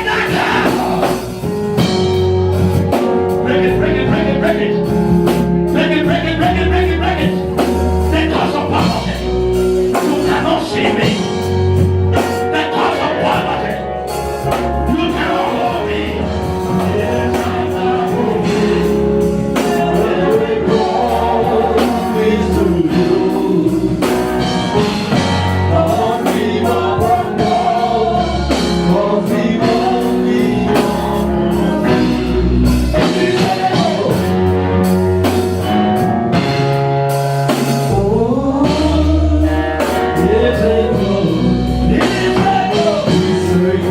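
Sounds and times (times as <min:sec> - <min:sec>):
band with bass and drums: 0:00.0 - 0:43.9
gospel singing: 0:00.0 - 0:43.9.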